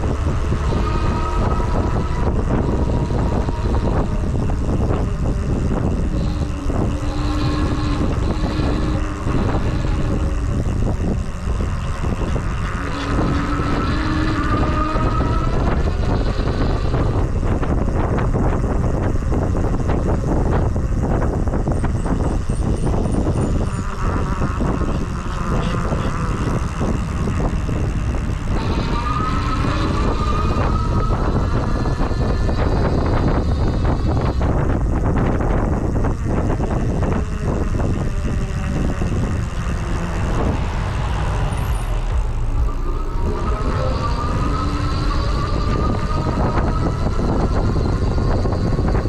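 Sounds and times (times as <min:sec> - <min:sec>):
steady hum: 0:00.0 - 0:49.0
thin rising whine: 0:00.0 - 0:49.0
tyre and road noise: 0:00.0 - 0:49.0
wind rumbling on microphone: 0:00.0 - 0:49.0.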